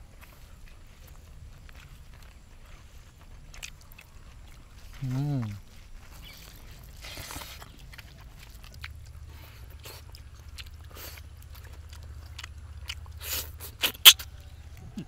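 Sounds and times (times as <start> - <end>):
low steady hum: 0.0 - 15.0
people chewing food: 0.0 - 15.0.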